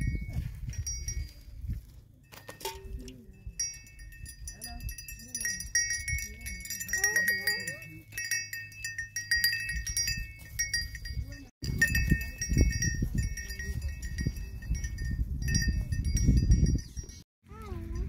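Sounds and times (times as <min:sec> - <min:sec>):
goat bells clanking: 0:00.0 - 0:18.0.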